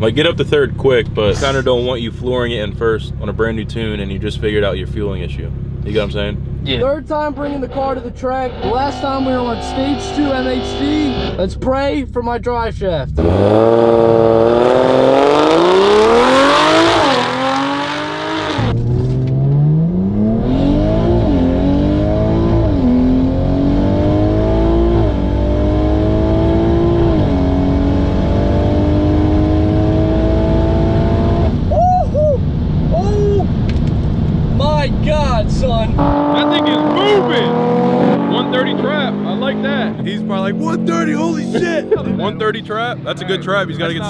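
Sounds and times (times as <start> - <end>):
car engine at full throttle: 0.0 - 31.8, 32.4 - 44.0.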